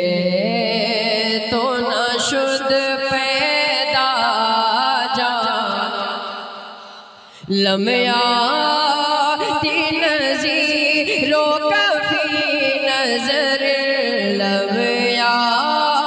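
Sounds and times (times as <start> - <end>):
man singing devotional song: 0.0 - 16.0.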